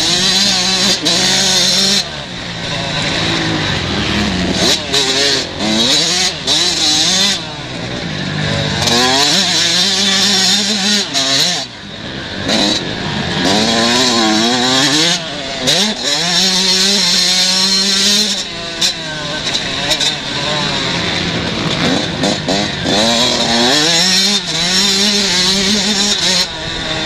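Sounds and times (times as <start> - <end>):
motocross bike engines revving: 0.0 - 27.0.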